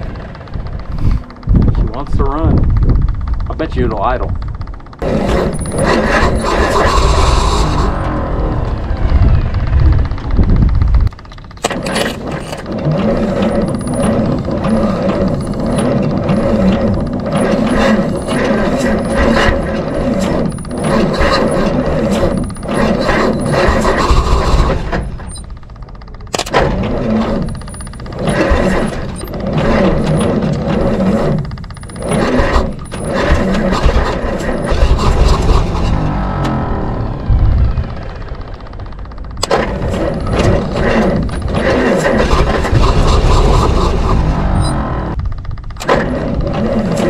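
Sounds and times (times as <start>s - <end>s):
truck engine running roughly: 0.0s - 47.0s.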